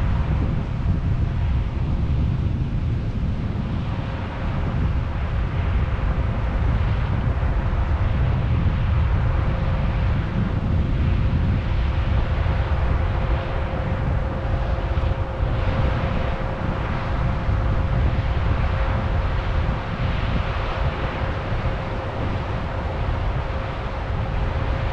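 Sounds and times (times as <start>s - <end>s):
thin steady whine: 0.0s - 24.9s.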